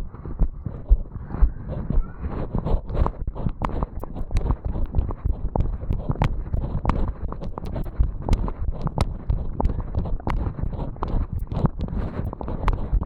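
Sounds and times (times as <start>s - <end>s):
fast heartbeat thumps: 0.0s - 13.0s
rubbing on chest piece: 0.2s - 13.0s.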